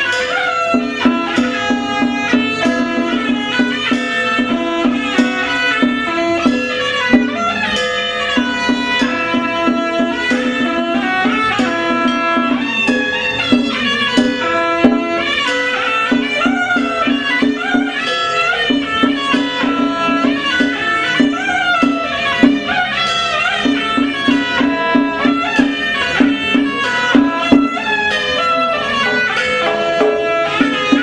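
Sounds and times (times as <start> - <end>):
sliding melody line: 0.0 - 31.0.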